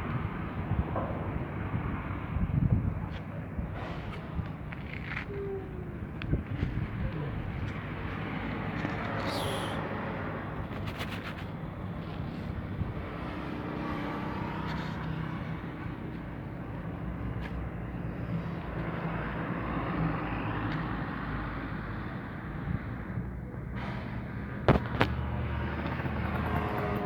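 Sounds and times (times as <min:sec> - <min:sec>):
rumble of passing traffic: 0:00.0 - 0:27.0.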